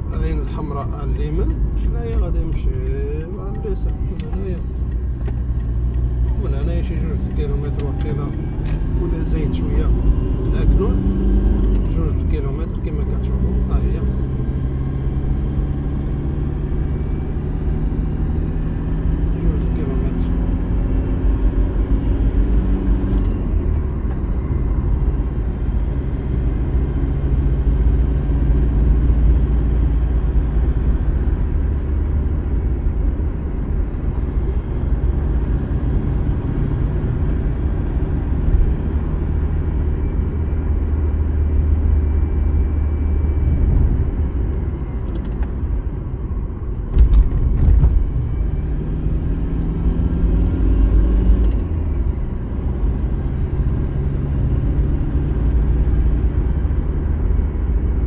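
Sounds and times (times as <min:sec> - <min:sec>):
car engine hum: 0:00.0 - 0:58.0
road rumble: 0:00.0 - 0:58.0.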